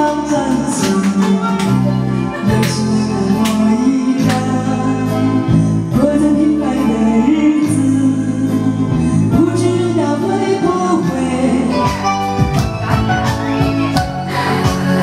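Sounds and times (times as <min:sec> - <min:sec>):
backing track with steady beat: 0:00.0 - 0:15.0
woman singing into microphone: 0:00.0 - 0:15.0.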